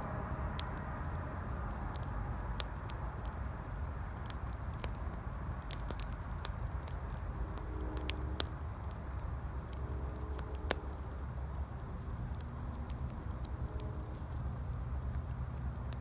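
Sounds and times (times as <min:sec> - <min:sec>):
highway traffic rumble: 0:00.0 - 0:16.0
campfire crackling and popping: 0:00.3 - 0:16.0.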